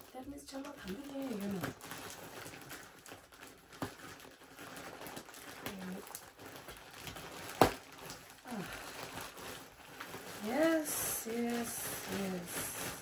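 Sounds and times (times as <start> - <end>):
rustling clothing and plastic packaging: 0.0 - 13.0.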